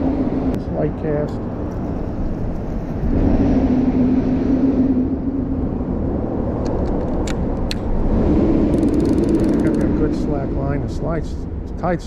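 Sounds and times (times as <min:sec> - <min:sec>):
traffic rumble overhead: 0:00.0 - 0:12.0
vehicle hum: 0:00.0 - 0:12.0.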